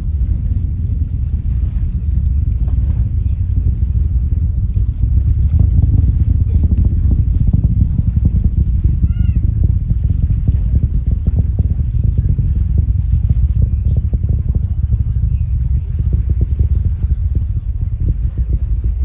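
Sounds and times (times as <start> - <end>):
rocket launch rumble with crackling: 0.0 - 19.0.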